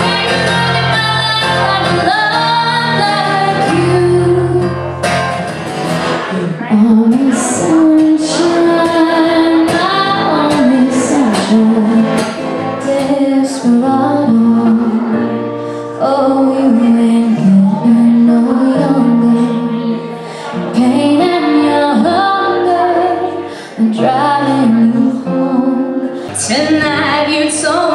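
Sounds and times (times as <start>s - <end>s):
woman singing: 0.0s - 4.9s, 6.3s - 27.9s.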